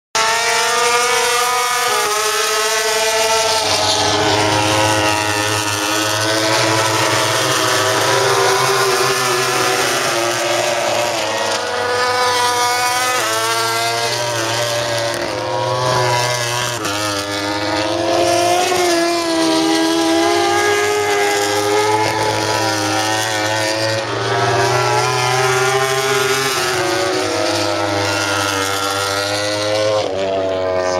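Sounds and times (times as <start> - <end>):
racing motorcycles passing: 0.2 - 30.9.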